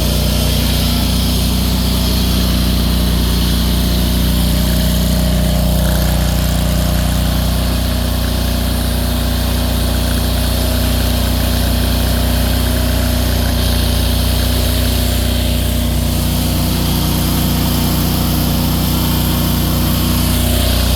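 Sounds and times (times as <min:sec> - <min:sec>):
excavator engine running: 0:00.0 - 0:20.9.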